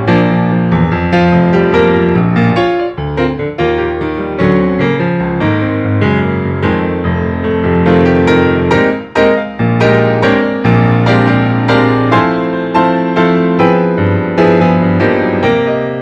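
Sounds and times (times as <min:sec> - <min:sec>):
piano melody with chords: 0:00.0 - 0:16.0.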